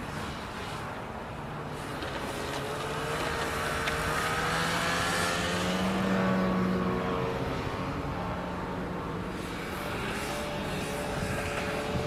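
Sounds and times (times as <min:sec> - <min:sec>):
snowmobile engine droning: 0:01.6 - 0:12.0.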